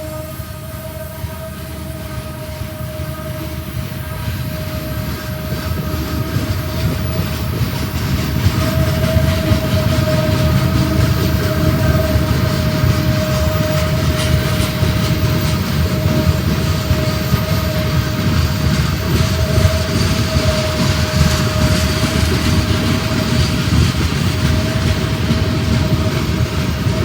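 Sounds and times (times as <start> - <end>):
freight train rumbling: 0.0 - 27.0
steady whine: 0.0 - 27.0.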